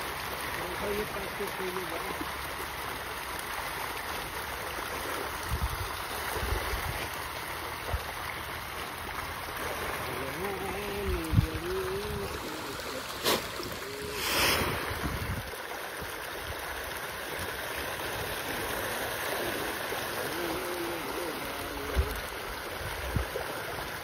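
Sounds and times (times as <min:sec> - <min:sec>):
fish splashing at water surface: 0:00.0 - 0:24.0.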